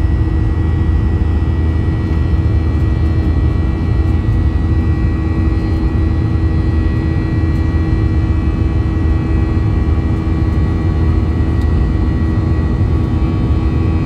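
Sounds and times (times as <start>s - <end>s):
jet engines deep rumble: 0.0s - 14.0s.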